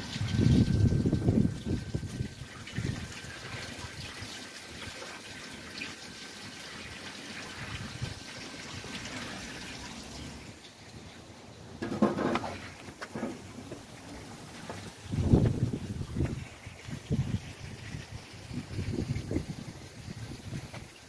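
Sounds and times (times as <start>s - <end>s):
water trickling through filter: 0.0s - 21.0s.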